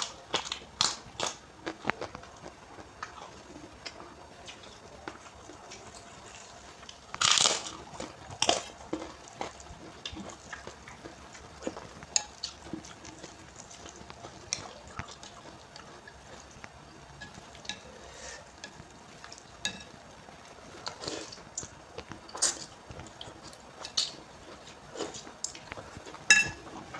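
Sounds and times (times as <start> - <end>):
chewing and crunching noodles: 0.0 - 16.8, 20.7 - 26.9.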